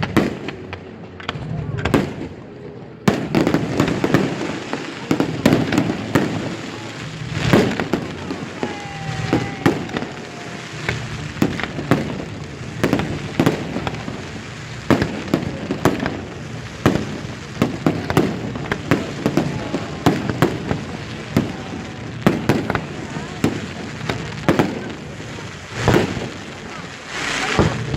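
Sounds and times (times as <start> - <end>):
fireworks bangs: 0.0 - 27.9
fireworks crackling: 0.0 - 27.9.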